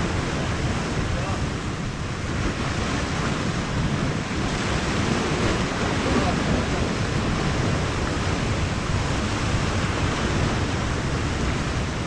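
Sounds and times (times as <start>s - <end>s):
sea waves breaking on shore: 0.0s - 12.0s
wind buffeting microphone: 0.0s - 12.0s.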